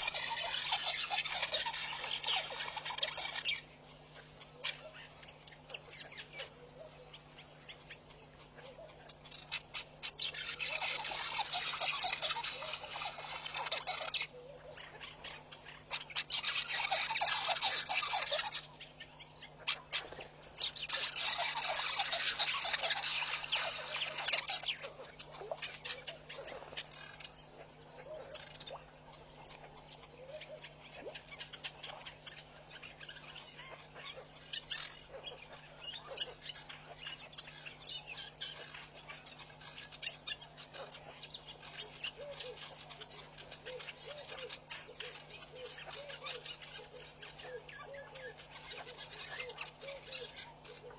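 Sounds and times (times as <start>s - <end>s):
faint chirps: 0.0s - 50.9s
insect trill: 0.0s - 50.9s.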